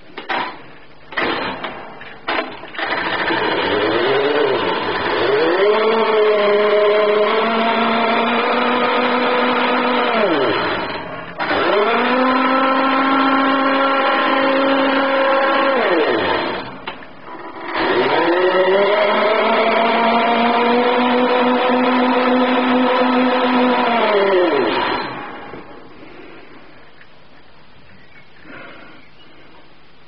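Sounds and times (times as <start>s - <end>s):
electric motor and gears whining: 1.1s - 25.9s.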